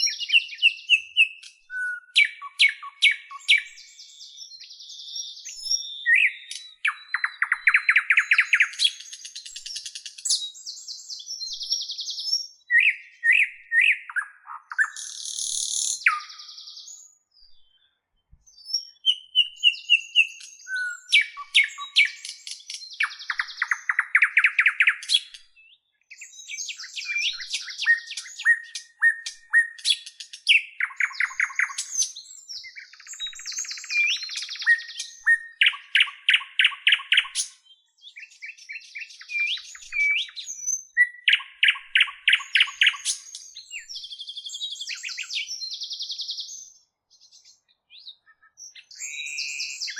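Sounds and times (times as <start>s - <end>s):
bird singing trilled song: 0.0s - 49.9s.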